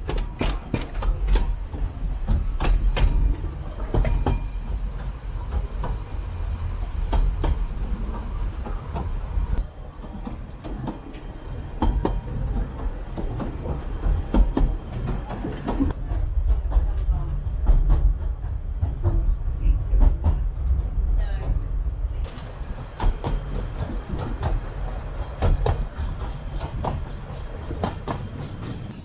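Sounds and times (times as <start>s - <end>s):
wheels and couplings clicking: 0.0s - 20.8s, 22.2s - 29.0s
railway carriage rumbling on track: 0.0s - 29.0s.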